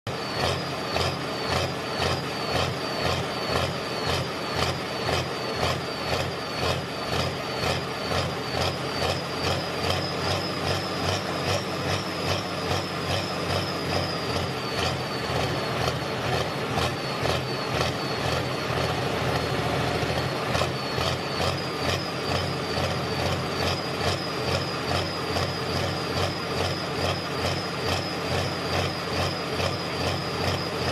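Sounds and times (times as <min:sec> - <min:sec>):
heavy diesel tractor engine: 0:00.1 - 0:30.9
high whistle: 0:00.1 - 0:30.9.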